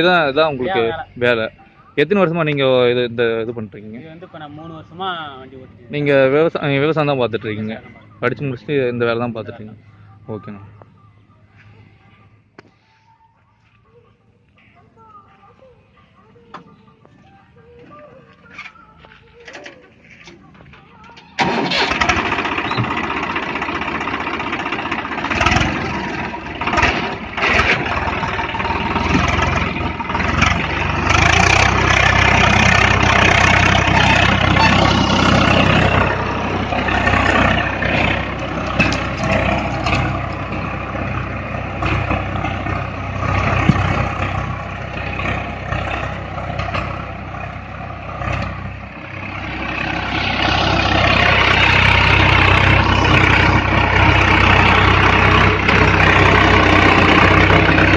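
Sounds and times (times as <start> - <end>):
tractor diesel engine running: 0.0 - 13.8, 14.5 - 57.9.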